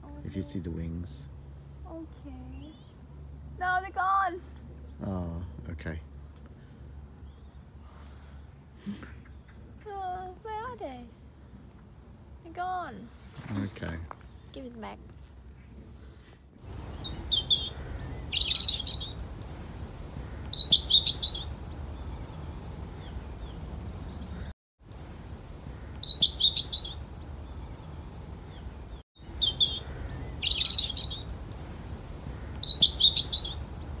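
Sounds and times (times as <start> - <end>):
low steady rumble: 0.0 - 24.5, 26.7 - 32.6
songbird chirping and trilling: 0.0 - 34.0.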